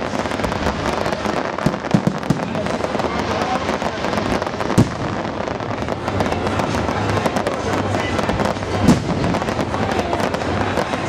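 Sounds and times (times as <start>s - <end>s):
fireworks crackling and popping: 0.0s - 11.0s.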